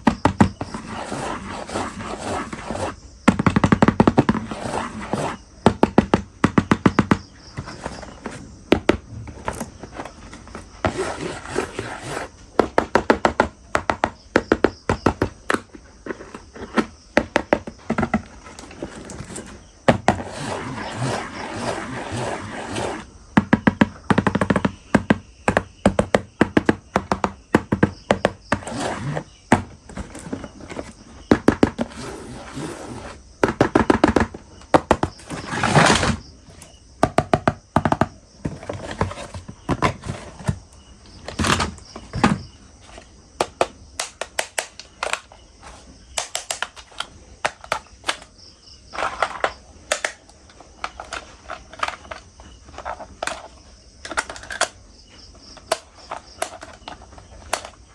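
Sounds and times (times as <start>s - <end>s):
plastic toys knocking: 0.0s - 0.9s, 2.8s - 20.5s, 22.9s - 31.9s, 33.0s - 57.9s.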